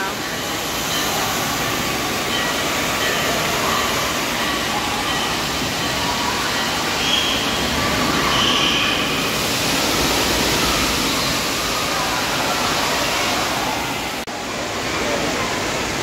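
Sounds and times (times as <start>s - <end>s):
faint voices: 0.0s - 16.0s
water pouring and spraying: 0.0s - 16.0s.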